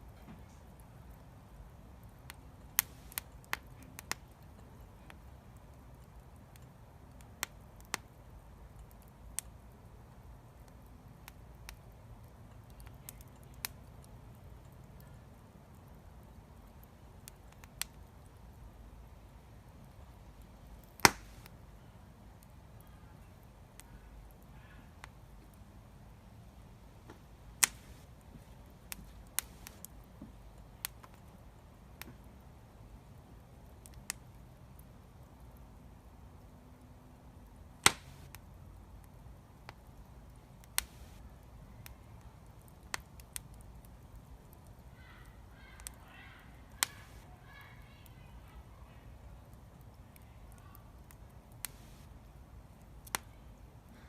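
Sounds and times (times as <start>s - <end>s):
low rumble of burning: 0.0s - 54.0s
wood fire crackling: 0.0s - 54.0s.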